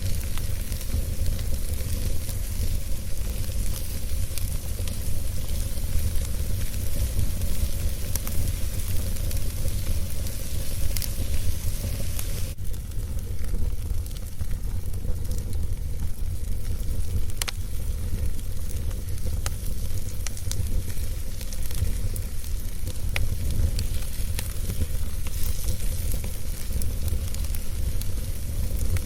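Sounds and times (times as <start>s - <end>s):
burning wood crackling and popping: 0.0s - 29.0s
wood fire rumbling and hissing: 0.0s - 29.0s.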